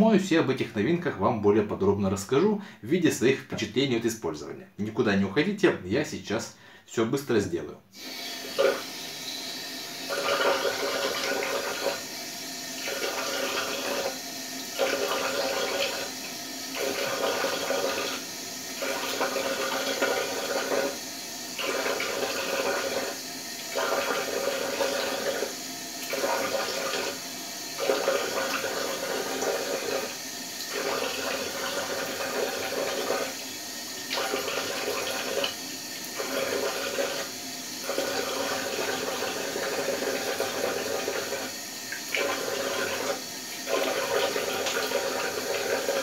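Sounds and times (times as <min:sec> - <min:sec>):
tap water running into sink: 0:08.0 - 0:46.0.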